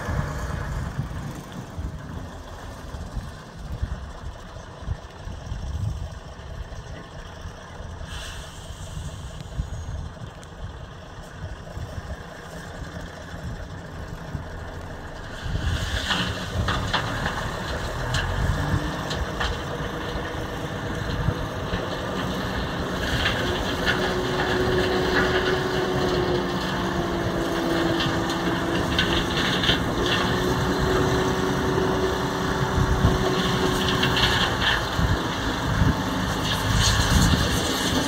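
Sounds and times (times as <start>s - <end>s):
truck diesel engine running: 0.0s - 38.0s.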